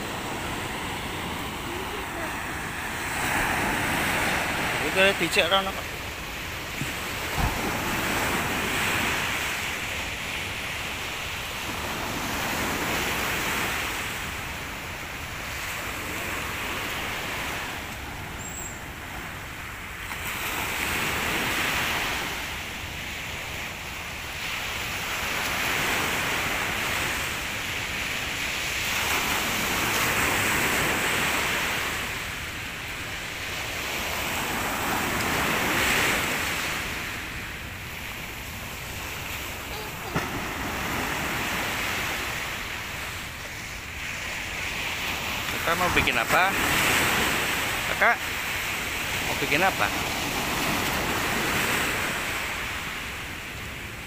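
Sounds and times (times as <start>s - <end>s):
sea surf washing onto beach: 0.0s - 54.0s.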